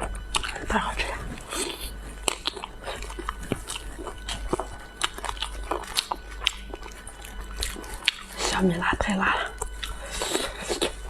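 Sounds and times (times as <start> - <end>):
person chewing food: 0.0 - 8.6, 9.4 - 11.0.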